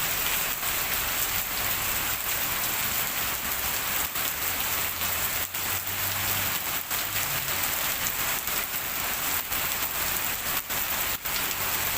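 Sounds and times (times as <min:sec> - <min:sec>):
heavy rain falling: 0:00.0 - 0:11.9.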